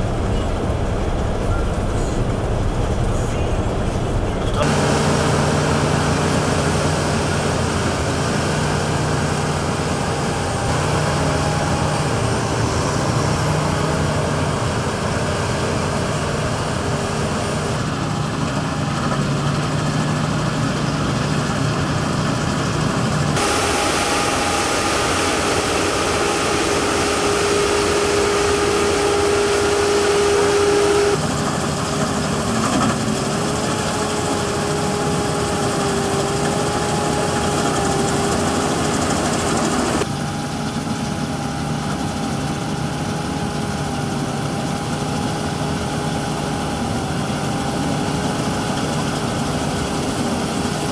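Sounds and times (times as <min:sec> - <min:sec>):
combine harvester drone: 0:00.0 - 0:50.9
held whining tones: 0:00.0 - 0:50.9.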